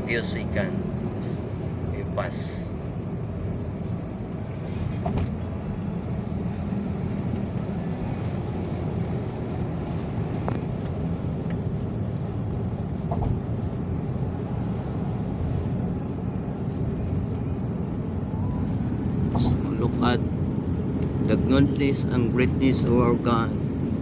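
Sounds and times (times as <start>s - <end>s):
vehicle road and engine noise: 0.0s - 24.0s.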